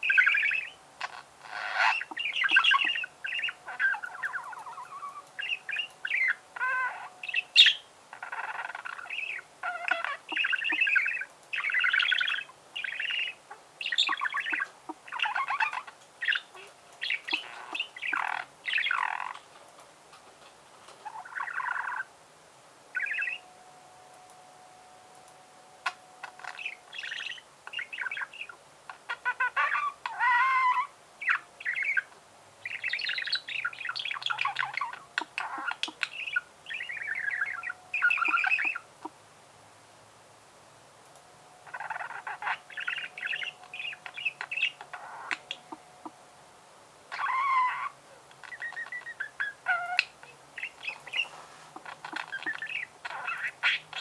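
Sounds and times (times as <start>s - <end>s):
budgerigar warbling: 0.0s - 19.4s, 26.3s - 39.1s, 41.6s - 46.2s, 47.1s - 54.0s.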